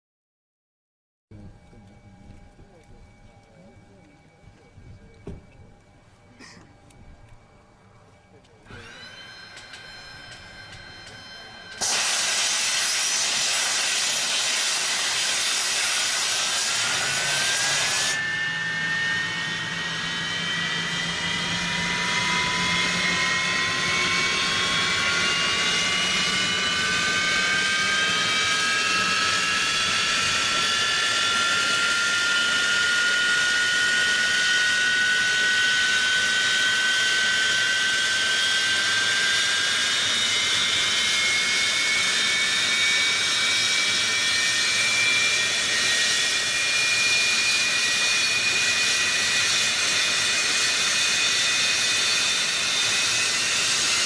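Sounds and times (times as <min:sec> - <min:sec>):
rising engine whine: 0:01.3 - 0:54.0
jet engines roaring: 0:08.5 - 0:54.0.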